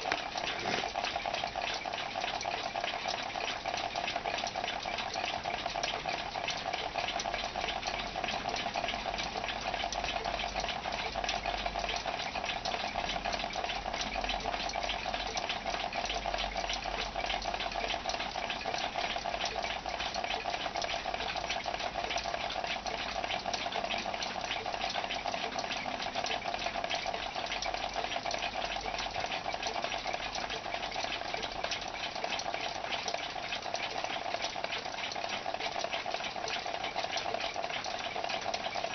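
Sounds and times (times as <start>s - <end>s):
alarm clock buzzing rattle: 0.0s - 38.9s.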